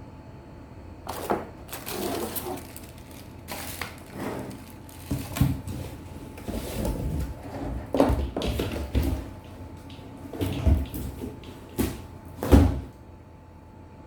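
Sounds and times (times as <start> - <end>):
hard objects knocking and clattering: 1.1 - 12.8.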